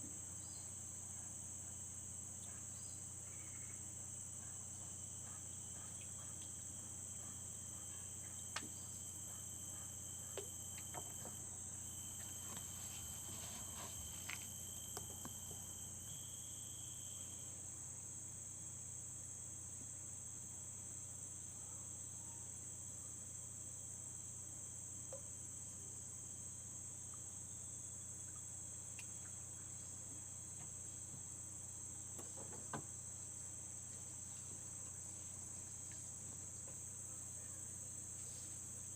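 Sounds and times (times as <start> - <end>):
high-pitched insect chorus: 0.1 - 38.9
lower insect trill: 0.1 - 38.9.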